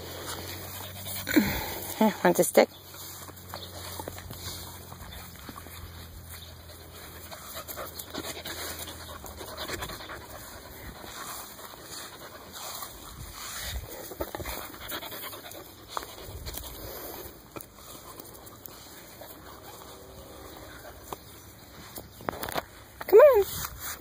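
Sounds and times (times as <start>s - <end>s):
puppy panting: 0.0s - 21.6s.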